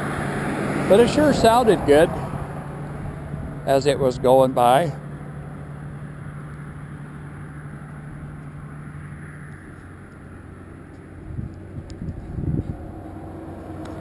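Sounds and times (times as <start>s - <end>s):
low hum: 0.0s - 14.0s
vehicle engine running: 0.0s - 14.0s.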